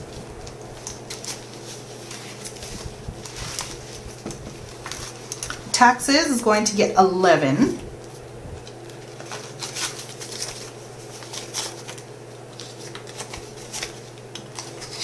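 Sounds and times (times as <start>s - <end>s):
plastic pouch crinkling: 0.0s - 5.7s, 8.0s - 15.0s
banknotes rustling and flicking: 0.0s - 6.8s, 7.8s - 15.0s.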